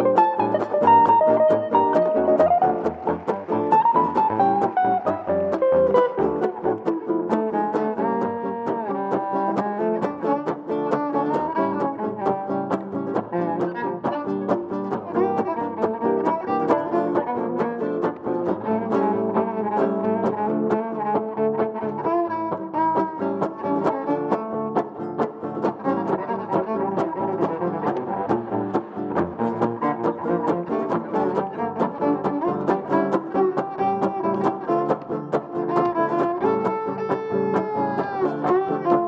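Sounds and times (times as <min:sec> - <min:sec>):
live band playing: 0:00.0 - 0:39.0
upright bass: 0:00.0 - 0:39.0.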